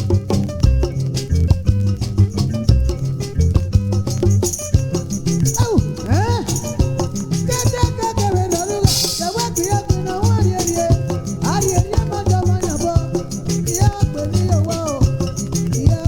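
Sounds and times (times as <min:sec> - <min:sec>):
highlife band music: 0:00.0 - 0:16.0.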